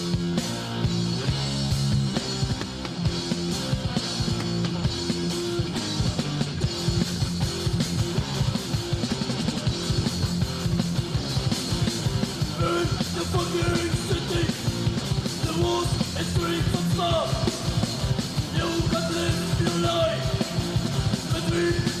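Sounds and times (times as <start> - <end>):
bass guitar: 0.0 - 22.0
distorted electric guitar: 0.0 - 22.0
fast drumming: 0.0 - 22.0.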